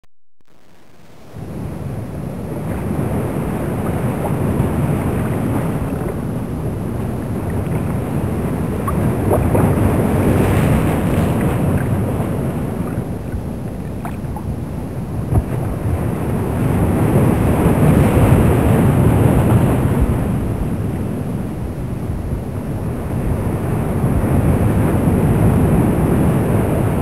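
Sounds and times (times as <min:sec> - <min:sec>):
wind: 0:00.6 - 0:27.0
sea rushing: 0:00.8 - 0:27.0
wind buffeting microphone: 0:01.3 - 0:27.0.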